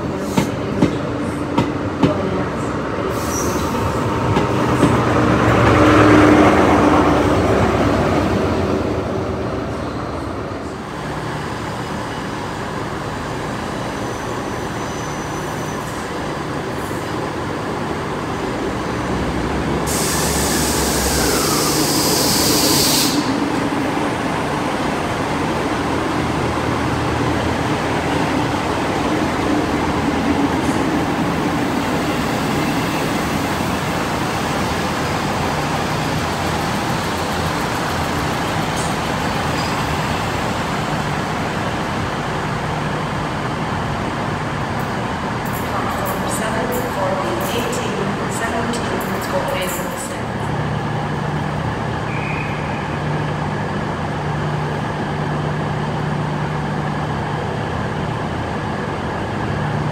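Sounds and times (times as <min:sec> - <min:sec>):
diesel train engines running: 0:00.0 - 0:59.9.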